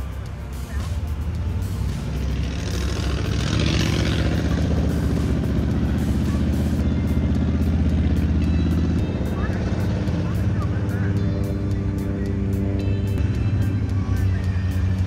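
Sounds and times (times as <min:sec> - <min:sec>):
monster truck engine droning: 0:00.0 - 0:15.0.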